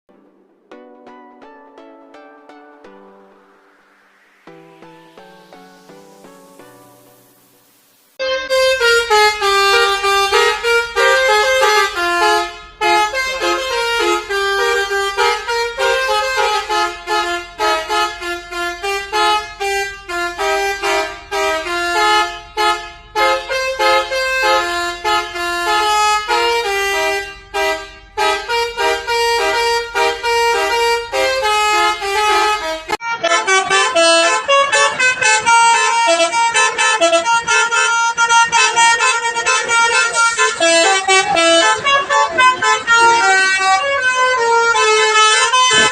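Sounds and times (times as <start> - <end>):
multi-tone air horn melody: 3.1 - 45.9.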